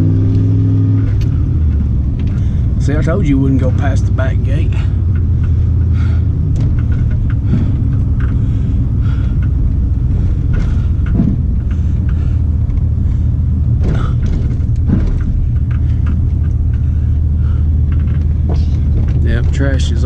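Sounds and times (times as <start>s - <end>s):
engine and road drone: 0.0s - 20.0s.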